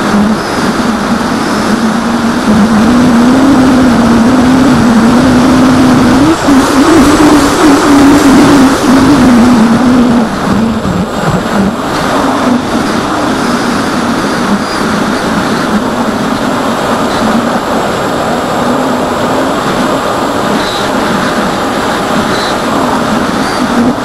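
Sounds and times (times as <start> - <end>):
electric motor and propeller droning: 0.0 - 24.0
wind rush: 0.0 - 24.0.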